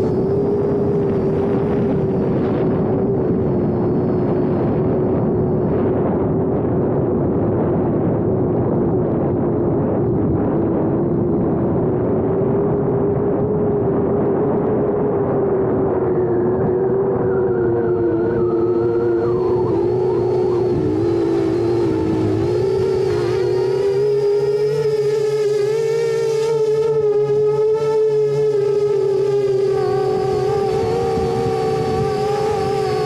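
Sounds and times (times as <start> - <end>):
drone motors humming: 0.0 - 33.0
wind noise: 0.0 - 33.0.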